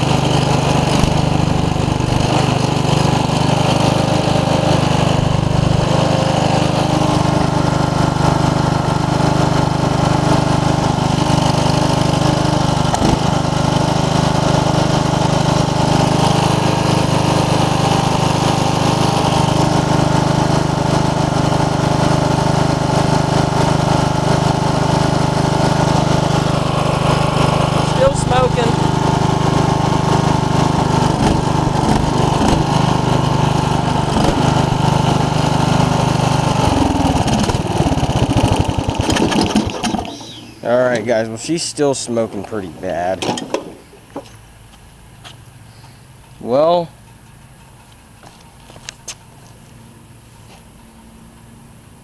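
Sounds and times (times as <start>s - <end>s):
riding mower engine running: 0.0s - 52.0s.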